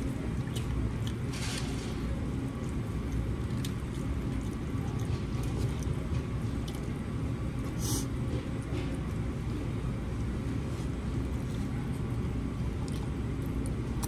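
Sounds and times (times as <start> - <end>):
chewing: 0.0 - 9.6, 10.7 - 14.0
low room rumble: 0.0 - 14.0.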